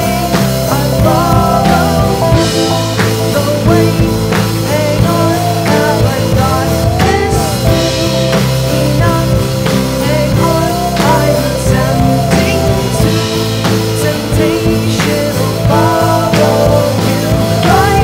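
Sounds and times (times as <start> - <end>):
indie rock music: 0.0 - 18.0.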